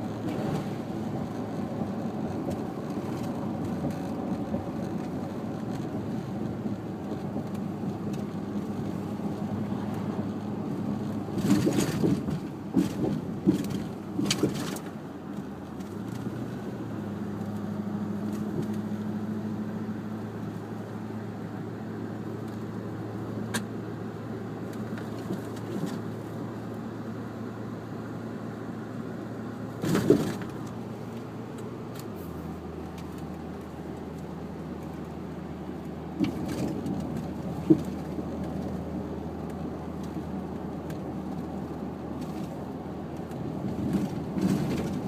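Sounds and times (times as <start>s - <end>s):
car engine and road hum: 0.0s - 45.0s.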